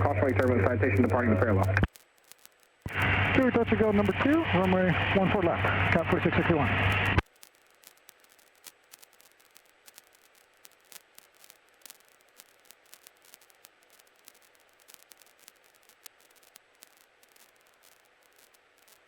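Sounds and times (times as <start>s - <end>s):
crackling clicks: 0.0s - 19.0s
faint static hiss: 0.0s - 19.0s.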